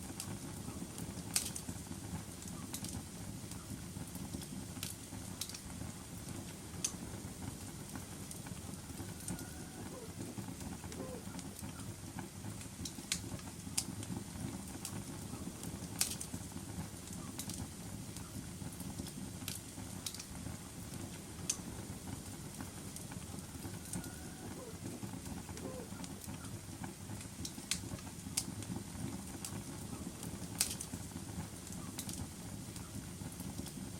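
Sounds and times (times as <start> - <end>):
fire crackling and popping: 0.0 - 33.9
wood fire flames rumbling: 0.0 - 33.9.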